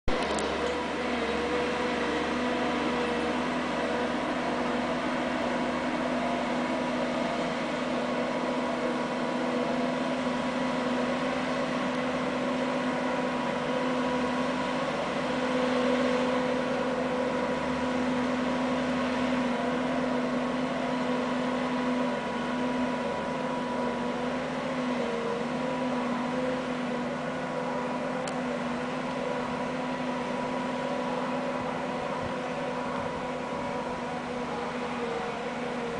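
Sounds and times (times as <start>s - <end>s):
diesel engine running under load: 0.0s - 35.9s.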